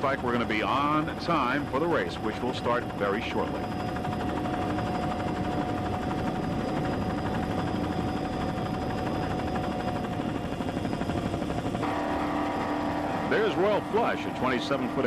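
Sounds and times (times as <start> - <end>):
engine drone: 0.0 - 15.0
steady hum: 0.0 - 15.0.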